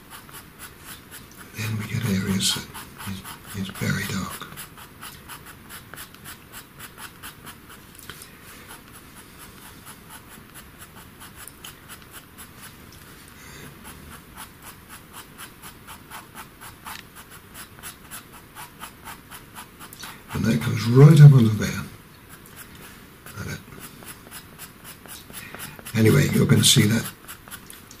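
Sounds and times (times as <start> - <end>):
pencil scratching on paper: 0.0 - 27.9.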